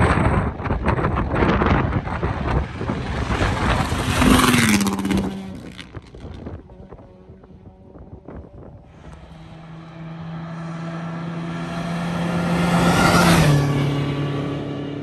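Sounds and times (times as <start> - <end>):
rally car passing by: 0.9 - 15.0.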